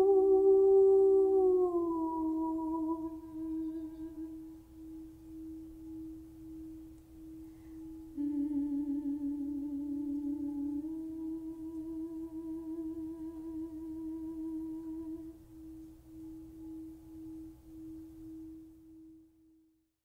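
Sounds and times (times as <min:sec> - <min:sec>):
singing bowl ringing: 0:00.0 - 0:19.8.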